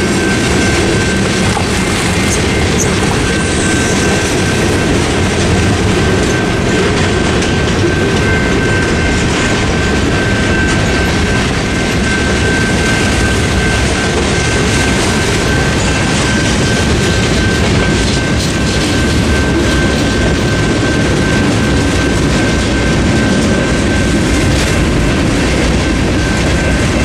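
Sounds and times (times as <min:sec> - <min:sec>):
crossing bell ringing: 0:00.0 - 0:27.0
train wheels clacking over rails: 0:00.0 - 0:27.0.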